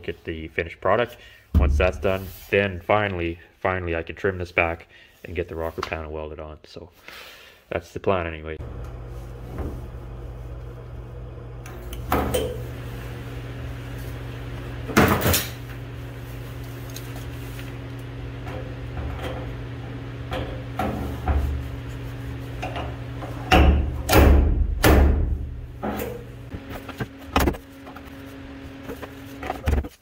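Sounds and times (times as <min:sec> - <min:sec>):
steady low hum: 0:00.3 - 0:03.6, 0:08.4 - 0:29.9.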